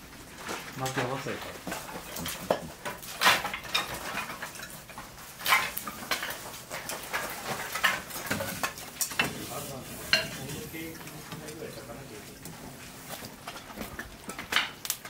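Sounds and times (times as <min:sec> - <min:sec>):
firewood sticks knocking: 0:00.4 - 0:11.6, 0:12.4 - 0:15.0.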